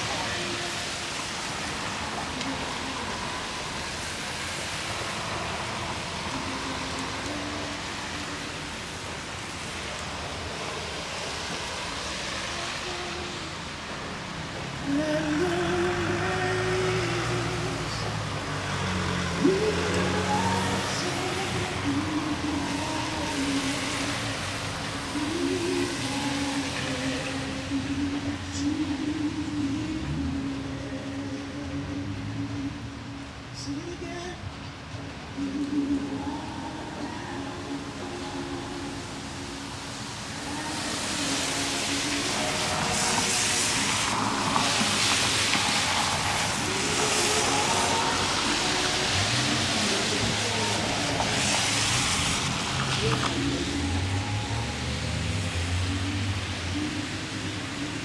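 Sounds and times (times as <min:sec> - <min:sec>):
cars driving by: 0:00.0 - 0:58.0
tyres hissing on wet road: 0:00.0 - 0:58.0.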